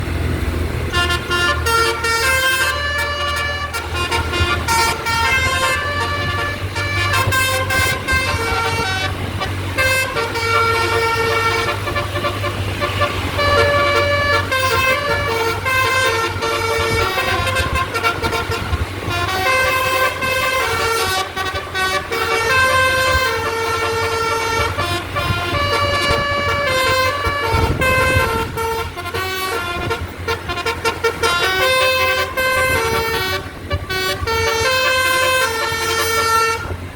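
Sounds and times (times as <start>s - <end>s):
musical air horn melody: 0.9s - 36.9s.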